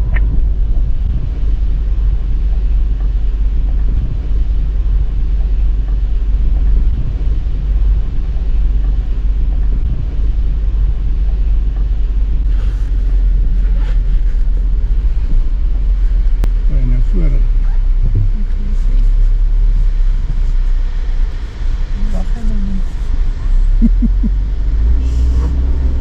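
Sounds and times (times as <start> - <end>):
vehicle engine and tyre rumble: 0.0 - 26.0.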